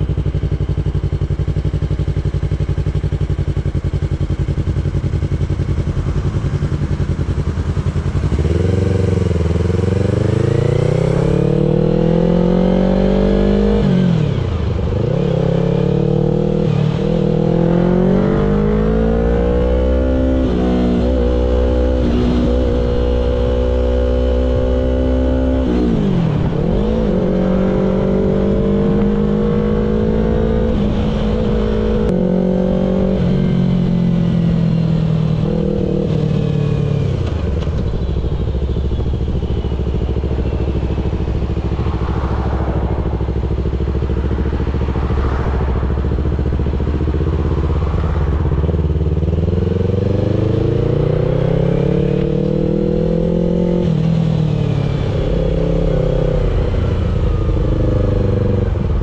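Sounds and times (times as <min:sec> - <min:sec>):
motorcycle engine shifting gears: 0:00.0 - 0:59.0.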